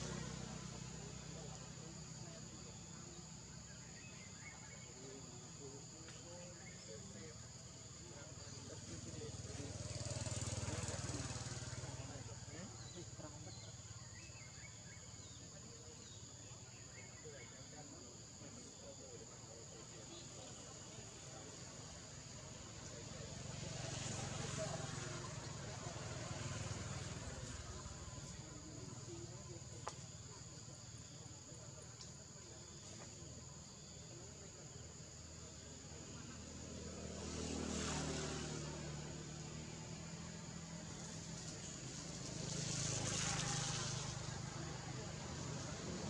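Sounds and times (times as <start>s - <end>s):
passing vehicle engine: 0.0s - 15.9s, 19.5s - 46.0s.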